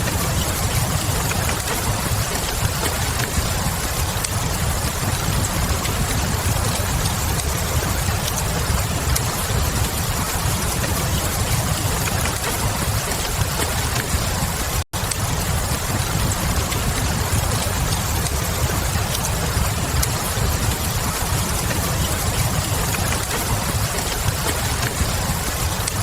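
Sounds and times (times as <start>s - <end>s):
steady rain hissing: 0.0s - 26.0s
wood fire crackling: 0.0s - 26.0s.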